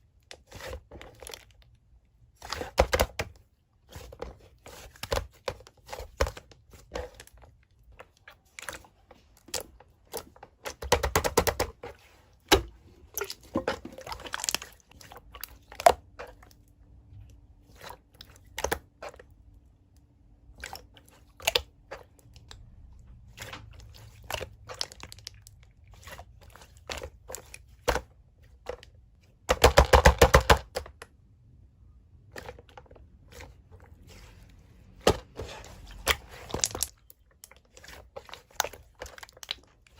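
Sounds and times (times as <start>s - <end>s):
crunching and crinkling: 0.0s - 31.0s, 32.3s - 39.9s.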